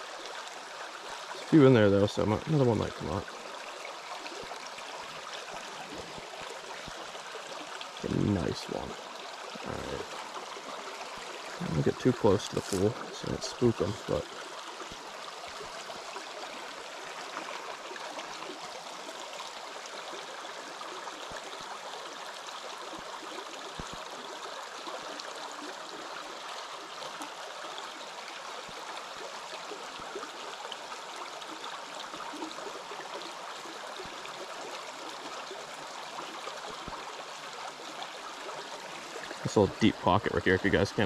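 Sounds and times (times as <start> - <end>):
stream flowing over stones: 0.0 - 41.0.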